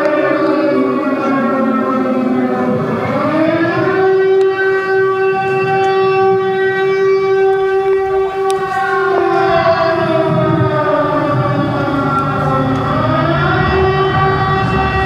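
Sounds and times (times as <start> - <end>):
air-raid siren wailing: 0.0 - 15.0.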